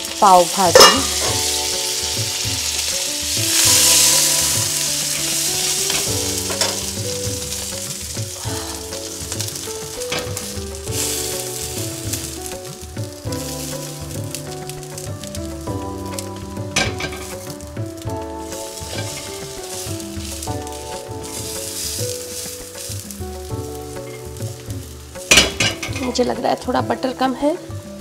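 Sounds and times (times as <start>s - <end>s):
butter sizzling on a hot griddle: 0.0s - 28.0s.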